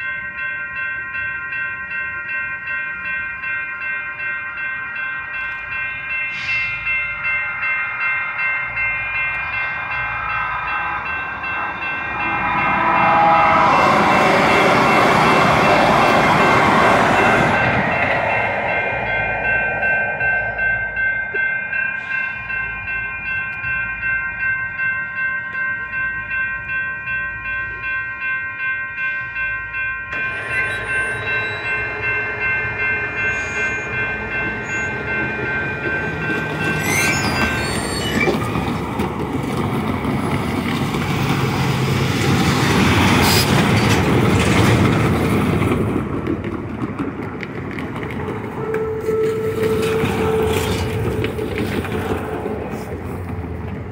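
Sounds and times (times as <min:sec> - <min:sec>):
railroad crossing bells ringing: 0:00.0 - 0:53.9.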